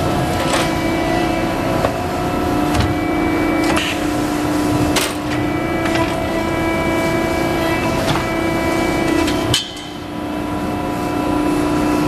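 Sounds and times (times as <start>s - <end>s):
hydraulic pump humming: 0.0s - 12.0s.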